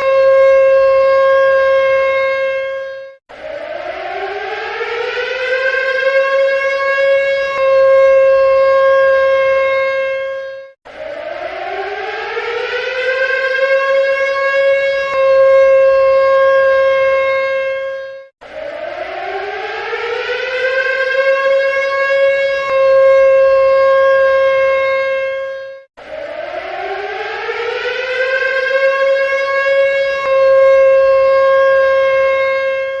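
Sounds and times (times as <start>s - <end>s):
warning siren wailing: 0.0s - 33.0s.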